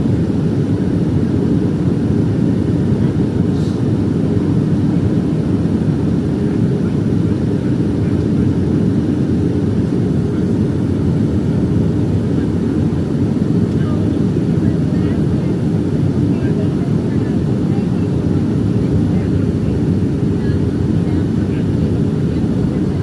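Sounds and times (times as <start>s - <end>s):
airplane cabin engine rush: 0.0s - 23.0s.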